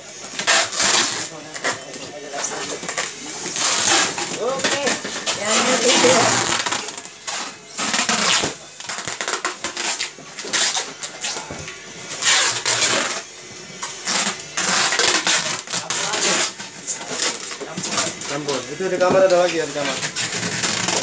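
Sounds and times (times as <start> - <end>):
plastic containers rustling and clattering: 0.2 - 13.2, 13.8 - 21.0.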